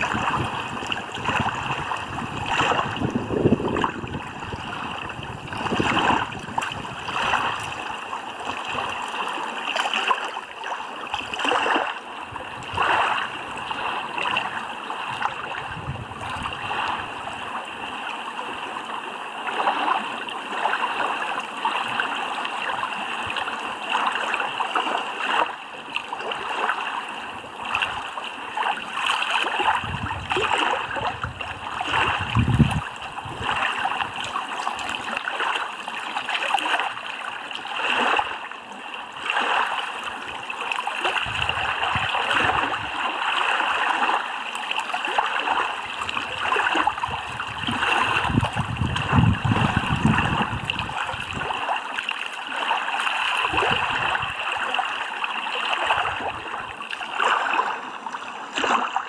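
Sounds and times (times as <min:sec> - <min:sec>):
small waves lapping on rocks: 0:00.0 - 0:59.0.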